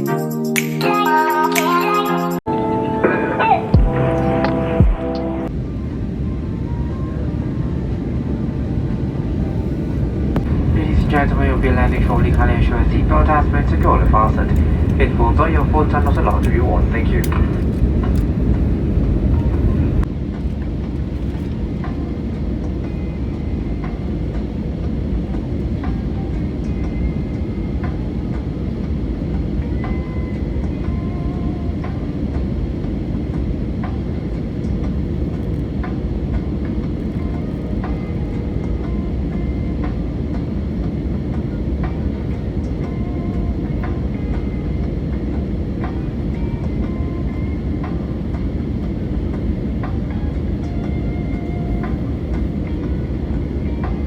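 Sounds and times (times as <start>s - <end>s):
airliner engine and airflow rumble: 2.4s - 54.0s.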